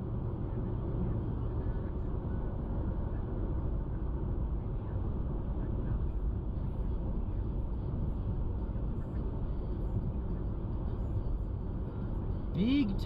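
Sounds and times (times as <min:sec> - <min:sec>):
road noise inside car: 0:00.0 - 0:13.0.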